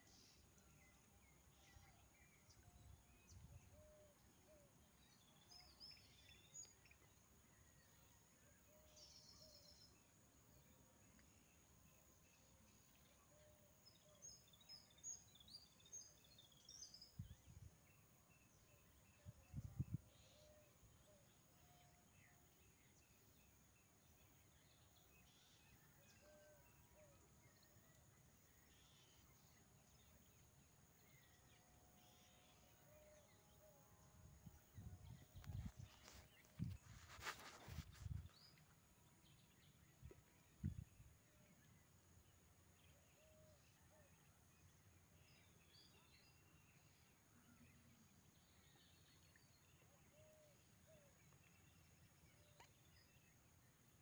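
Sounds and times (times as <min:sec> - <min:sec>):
faint outdoor ambience: 0:00.0 - 0:54.0.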